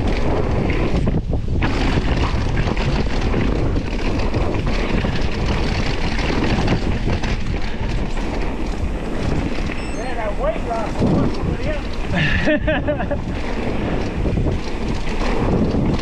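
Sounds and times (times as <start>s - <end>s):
bike rattling over bumps: 0.0s - 16.0s
bike tyres rumbling on dirt: 0.0s - 16.0s.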